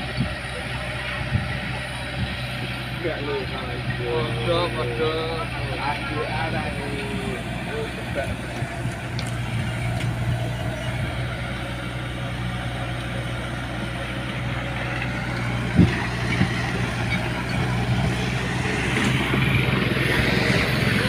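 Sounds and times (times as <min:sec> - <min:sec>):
bulldozer diesel engine: 0:00.0 - 0:21.0.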